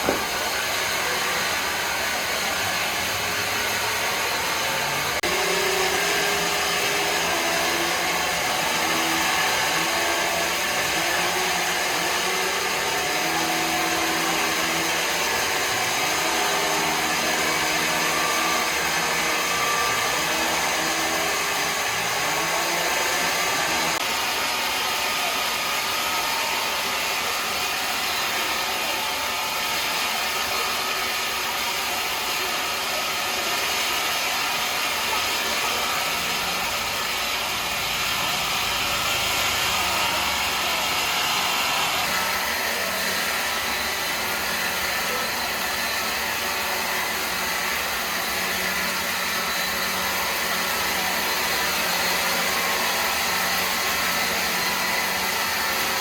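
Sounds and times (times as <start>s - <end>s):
woodworking machinery whirring: 0.0s - 56.0s.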